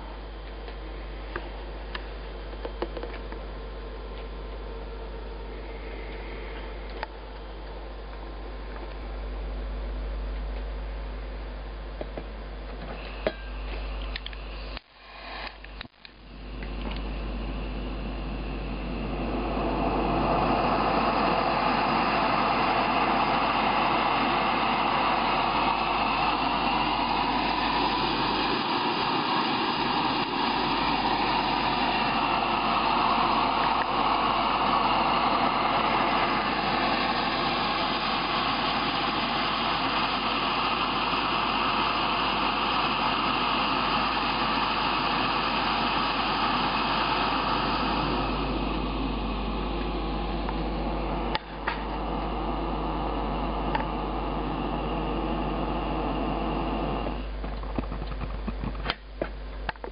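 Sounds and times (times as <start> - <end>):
gas stove burner flame rushing: 0.0 - 9.5, 12.0 - 59.9.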